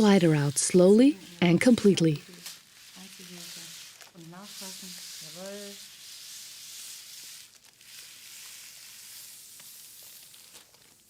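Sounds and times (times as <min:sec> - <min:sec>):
fabric rubbing and rustling: 0:00.0 - 0:11.0.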